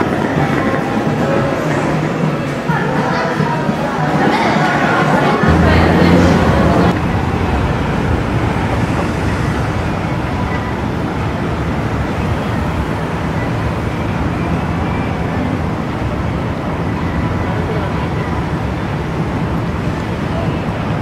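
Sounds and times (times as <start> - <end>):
city traffic: 0.0 - 21.0.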